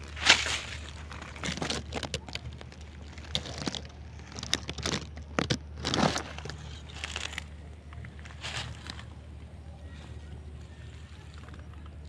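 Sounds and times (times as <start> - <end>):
crackling and rustling: 0.0 - 12.0
steady low hum: 0.0 - 12.0.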